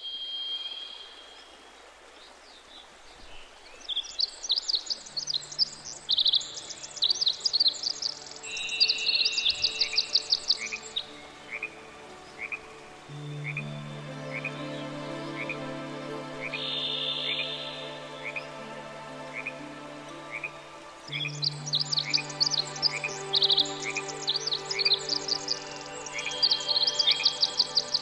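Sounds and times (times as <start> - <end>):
songbirds chirping: 0.0 - 28.0
soft background music: 4.6 - 28.0.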